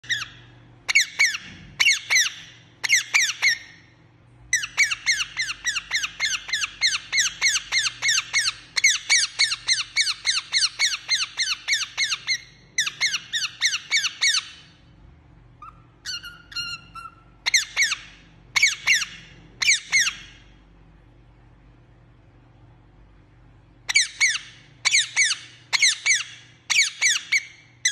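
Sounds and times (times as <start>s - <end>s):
parakeet chirping: 0.0s - 3.9s, 4.5s - 20.6s, 23.8s - 27.9s.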